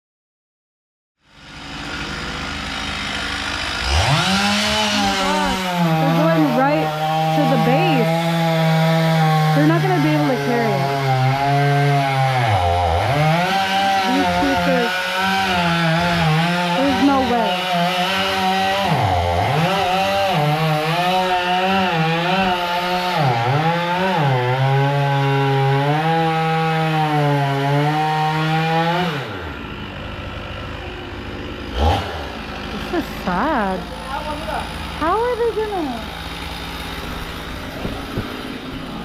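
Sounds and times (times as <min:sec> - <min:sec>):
chainsaw cutting wood: 0:01.3 - 0:39.0.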